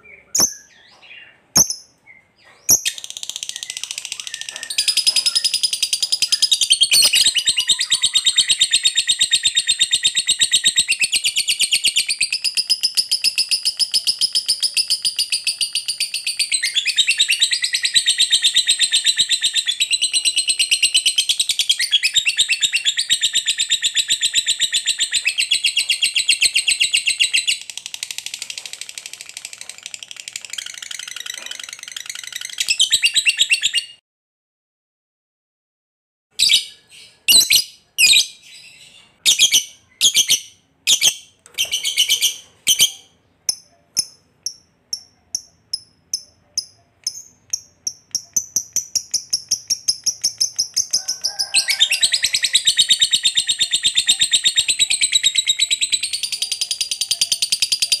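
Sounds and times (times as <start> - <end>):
lovebird chattering trill: 0.1 - 33.9, 39.3 - 58.0.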